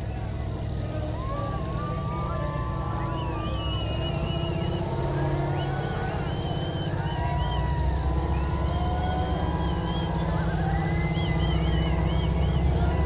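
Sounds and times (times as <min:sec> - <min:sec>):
crowd calling out: 0:00.0 - 0:13.0
truck engine under load: 0:00.0 - 0:13.0.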